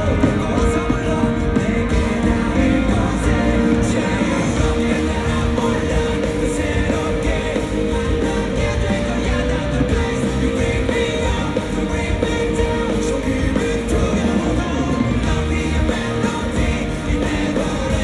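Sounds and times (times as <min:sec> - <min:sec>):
rock band with singer: 0:00.0 - 0:18.0.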